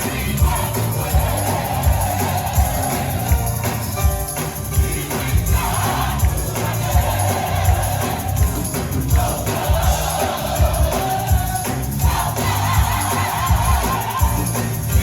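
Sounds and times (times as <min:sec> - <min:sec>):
gospel choir singing: 0:00.0 - 0:15.0
live band playing a beat: 0:00.0 - 0:15.0.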